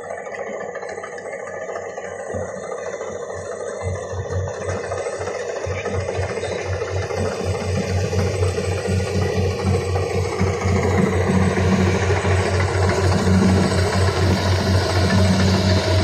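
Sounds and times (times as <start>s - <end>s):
combine harvester engine throbbing: 0.0s - 16.0s.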